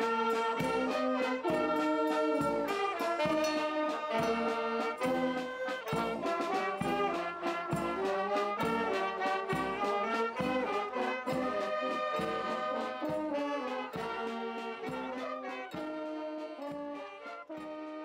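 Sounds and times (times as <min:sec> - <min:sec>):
brass instruments playing slow tune: 0:00.0 - 0:18.0.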